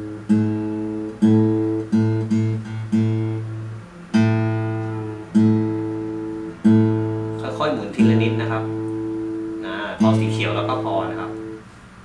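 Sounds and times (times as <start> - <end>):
acoustic guitar string plucked: 0.0 - 11.7.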